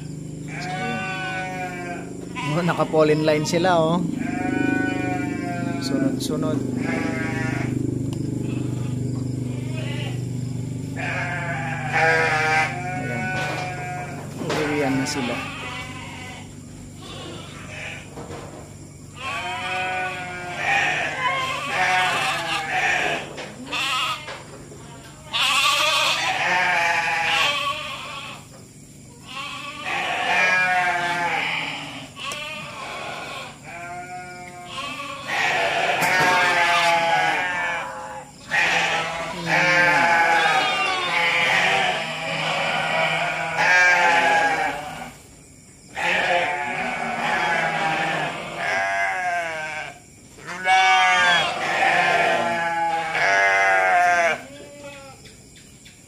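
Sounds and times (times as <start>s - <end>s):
sheep bleating: 0.0s - 10.3s, 10.9s - 18.1s, 19.1s - 28.5s, 29.2s - 45.2s, 45.9s - 55.2s.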